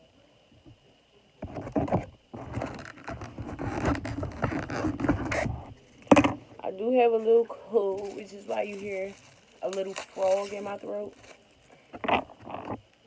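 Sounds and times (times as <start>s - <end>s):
food container scraping and rustling: 1.5s - 6.4s, 7.2s - 12.8s.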